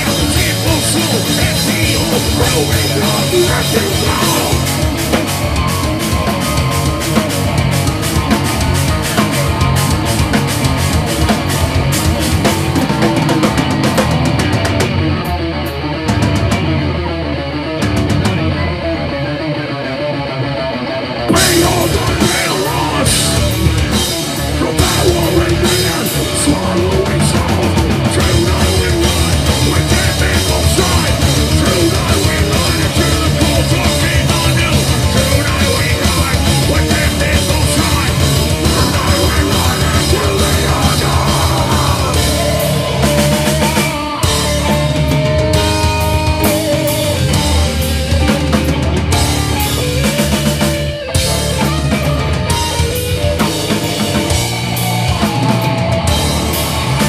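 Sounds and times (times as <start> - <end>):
electric guitar: 0.0 - 57.0
rock band playing live: 0.0 - 57.0.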